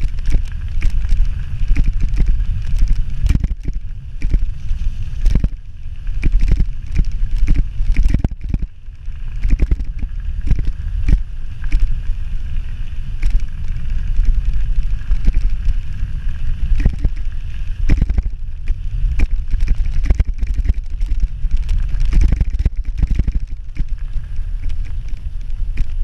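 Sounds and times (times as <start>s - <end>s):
bike clicking and rattling: 0.0s - 26.0s
wind rushing over microphone: 0.0s - 26.0s.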